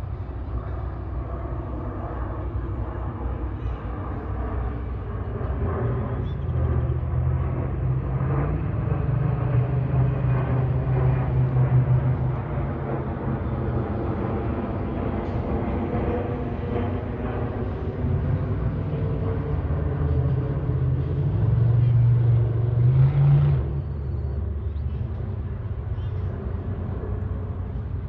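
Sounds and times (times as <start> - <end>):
aircraft passing overhead: 0.0 - 28.0.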